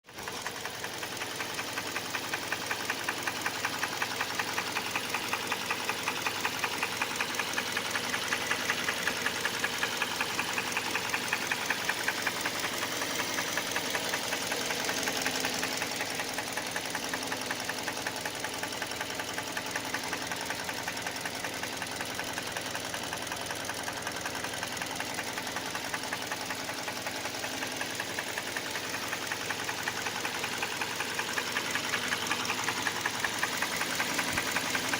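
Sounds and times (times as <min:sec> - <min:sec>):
car engine knocking: 0:00.1 - 0:34.9.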